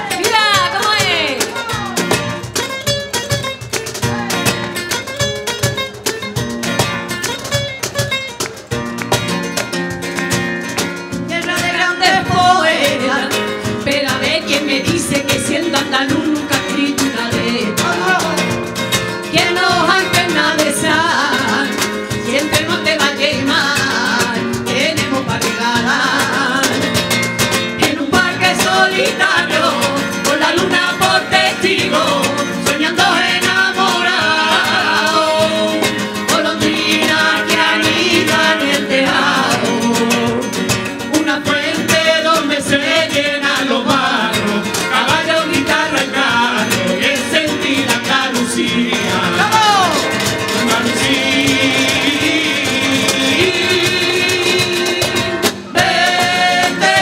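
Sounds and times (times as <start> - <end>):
women singing flamenco: 0.0 - 8.2, 9.0 - 57.0
acoustic guitar: 0.0 - 57.0.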